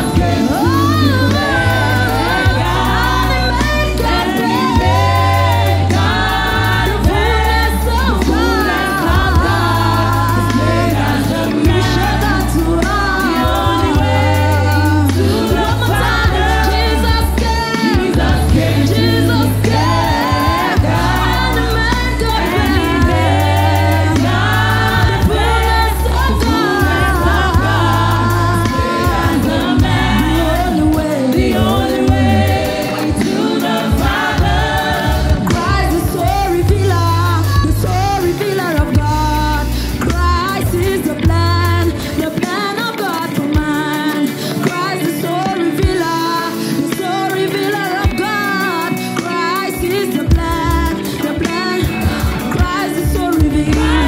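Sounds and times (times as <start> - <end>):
deep bass accompaniment: 0.0 - 42.4, 51.8 - 54.0
women singing in harmony: 0.0 - 54.0.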